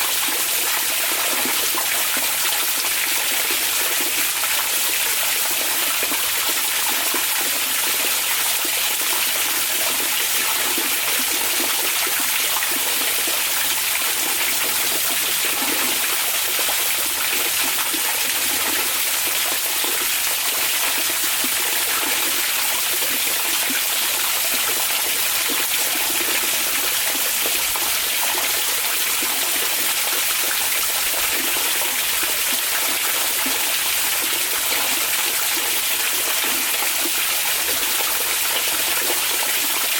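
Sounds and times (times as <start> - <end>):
water running steadily: 0.0 - 39.9.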